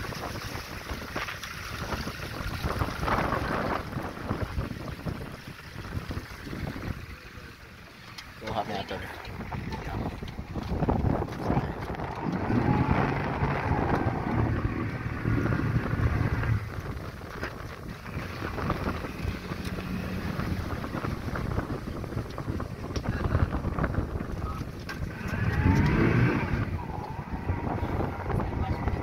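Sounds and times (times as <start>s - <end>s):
wind buffeting microphone: 0.0s - 7.5s, 8.6s - 29.0s
motorboat engine running: 0.0s - 29.0s
water rushing past hull: 0.0s - 29.0s.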